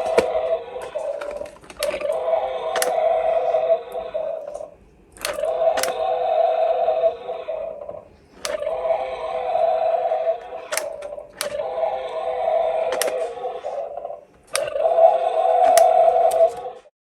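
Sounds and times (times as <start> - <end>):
sharp clicks: 1.0 - 6.2, 7.8 - 16.8.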